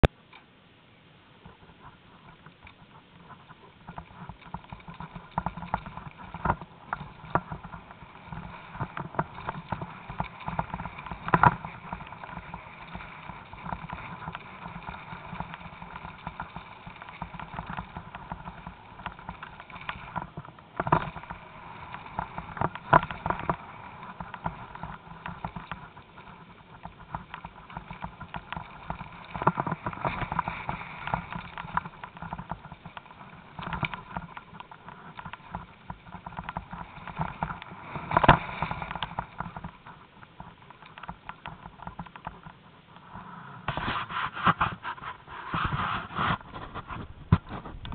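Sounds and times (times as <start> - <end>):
bike rattling and knocking: 1.4 - 47.9
bike tyres on dirt and stones: 1.4 - 47.9.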